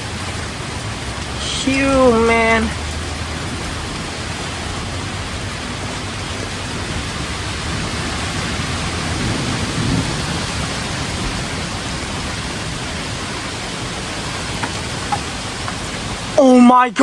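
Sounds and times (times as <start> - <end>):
thunder rumble: 0.0 - 16.4
heavy rain falling: 0.0 - 17.0.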